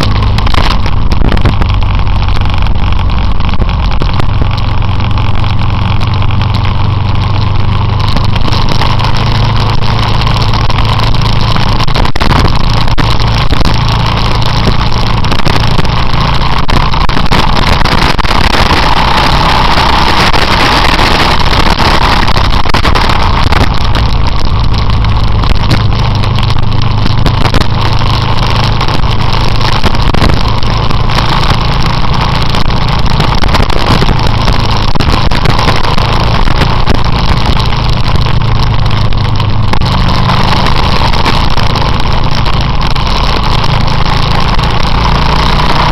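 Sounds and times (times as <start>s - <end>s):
motorcycle engine running: 0.0s - 45.9s
rushing wind noise: 0.0s - 45.9s.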